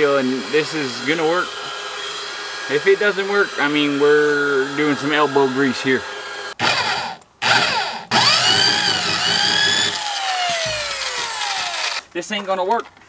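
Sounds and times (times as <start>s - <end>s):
electric drill whining under load: 0.0s - 12.0s.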